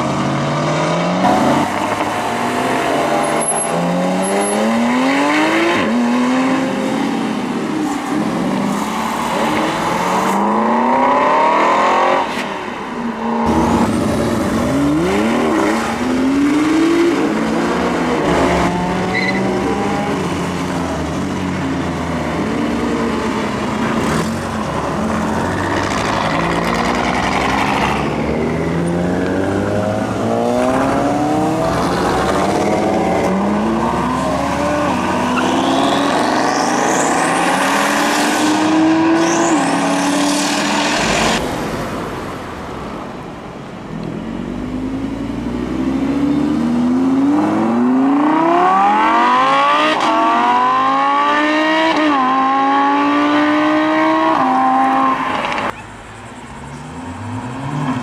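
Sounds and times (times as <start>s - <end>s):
sports car engines accelerating: 0.0s - 42.4s, 43.8s - 58.0s.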